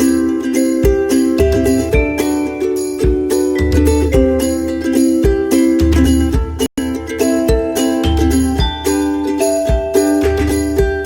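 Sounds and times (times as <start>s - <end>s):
chiming tune over steady beat: 0.6s - 5.6s, 6.9s - 11.0s.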